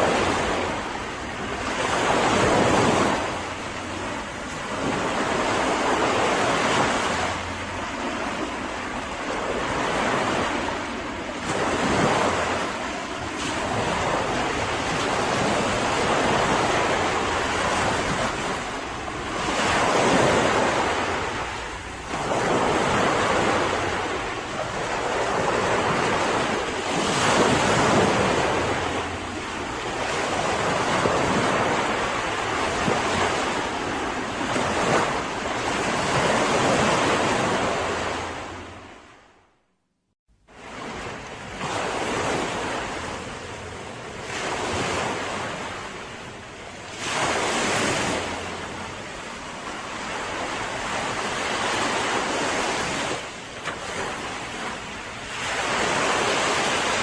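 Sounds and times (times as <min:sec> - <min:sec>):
waves breaking on a beach: 0:00.0 - 0:39.4, 0:40.4 - 0:57.0
wind: 0:00.0 - 0:57.0.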